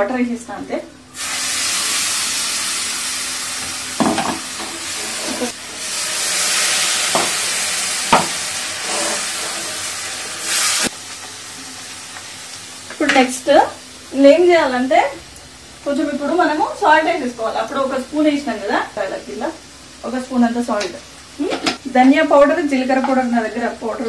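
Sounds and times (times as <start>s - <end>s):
oil sizzling and hissing: 1.1s - 24.0s.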